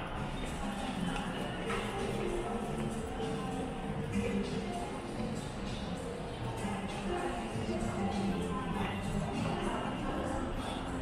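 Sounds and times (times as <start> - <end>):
background music over speakers: 0.0 - 11.0
murmur of voices: 0.0 - 11.0.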